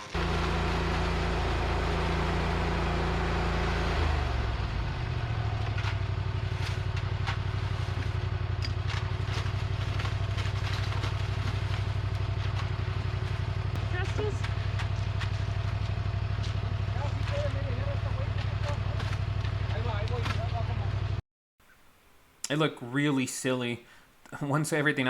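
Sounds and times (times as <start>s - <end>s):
engine running: 0.0s - 21.2s.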